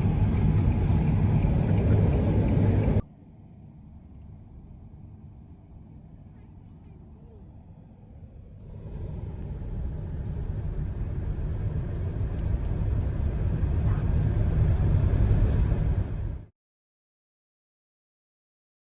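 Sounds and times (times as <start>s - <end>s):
low rumbling noise: 0.0s - 16.5s.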